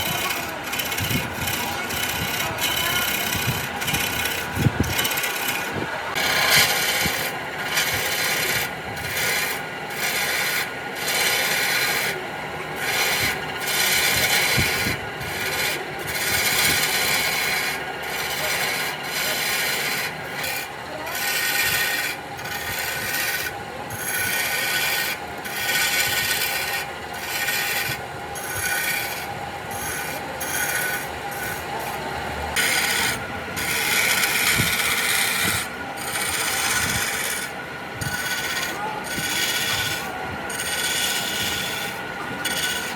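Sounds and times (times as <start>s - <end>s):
wood being rubbed by hand: 0.0s - 42.9s.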